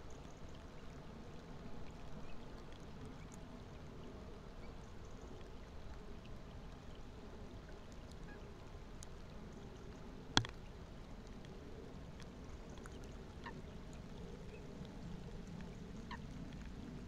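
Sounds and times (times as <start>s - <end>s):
rain falling on water: 0.0s - 17.0s.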